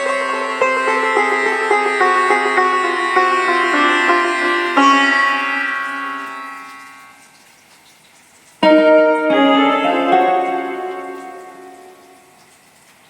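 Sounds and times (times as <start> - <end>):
keyboard piano chords: 0.0 - 7.3, 8.6 - 12.6.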